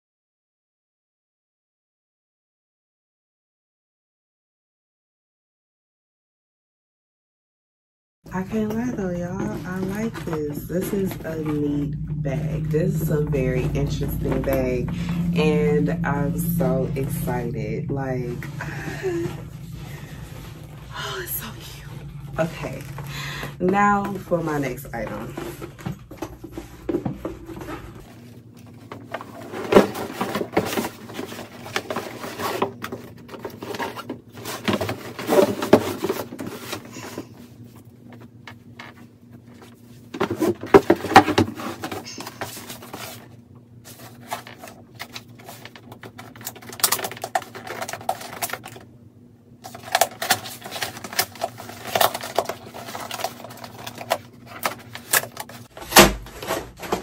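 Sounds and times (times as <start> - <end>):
handbag and packaging rustling: 8.3 - 48.9, 49.6 - 57.0
faint low hum: 8.3 - 57.0.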